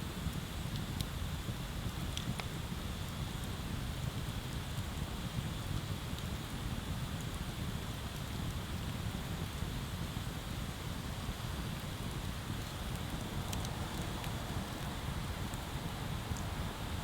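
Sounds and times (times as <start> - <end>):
bonfire rumbling and hissing: 0.0 - 17.0
faint fire crackle: 0.0 - 17.0.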